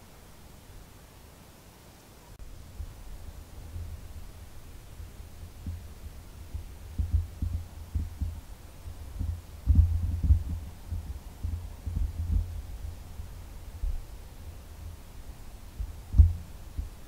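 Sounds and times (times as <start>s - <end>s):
wind buffeting microphone: 2.6s - 17.0s.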